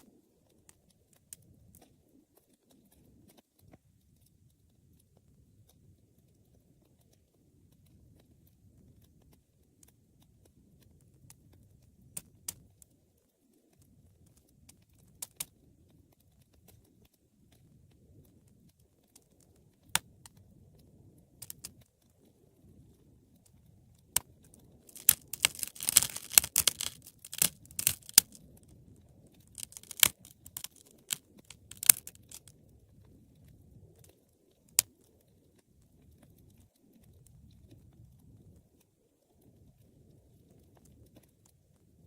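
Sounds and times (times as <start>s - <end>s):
low rumble of burning: 0.0s - 42.0s
wood fire crackling: 0.0s - 42.0s.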